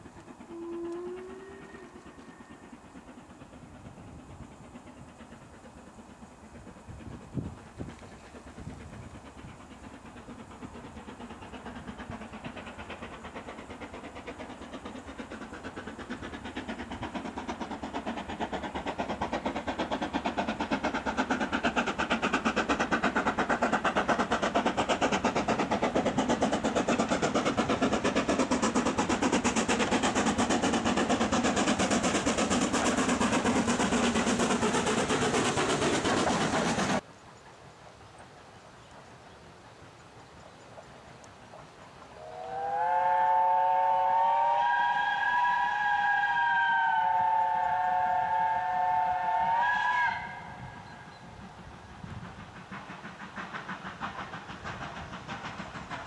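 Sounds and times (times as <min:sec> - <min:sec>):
train wheels clattering on rails: 0:00.0 - 0:37.4, 0:44.8 - 0:56.0
steam locomotive exhaust beats: 0:00.0 - 0:56.0.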